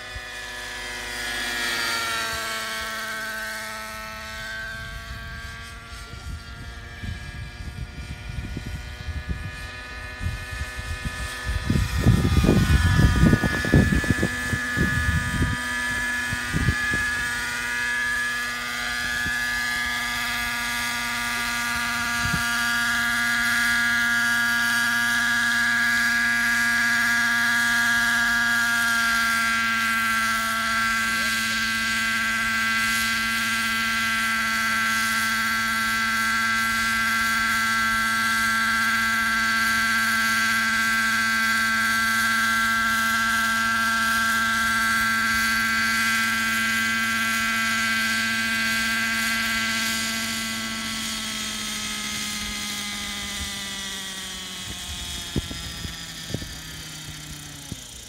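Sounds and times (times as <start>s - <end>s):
model helicopter engine and rotors: 0.0s - 58.0s.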